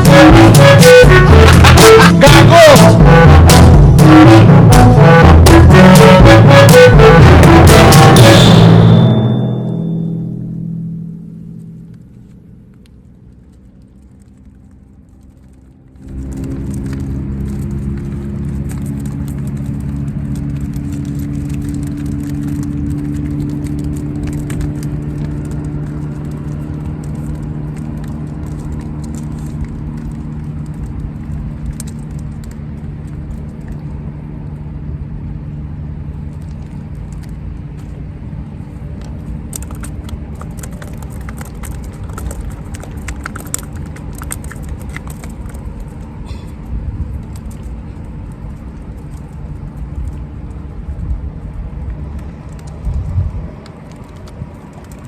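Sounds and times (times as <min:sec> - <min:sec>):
motor engine humming: 0:00.0 - 0:52.6.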